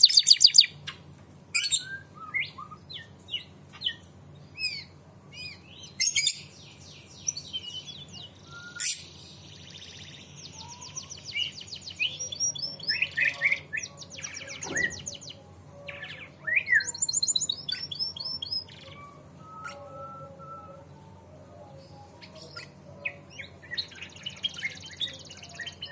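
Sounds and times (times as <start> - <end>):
canary singing trills: 0.0 - 0.9, 1.6 - 25.9.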